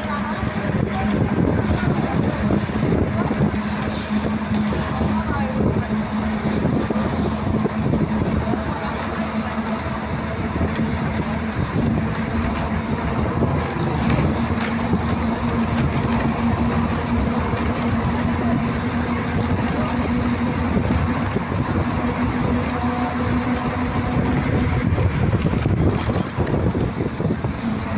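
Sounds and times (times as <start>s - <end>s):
bus passing close: 0.0s - 27.9s
engine hum: 0.0s - 27.9s
road noise: 0.0s - 27.9s.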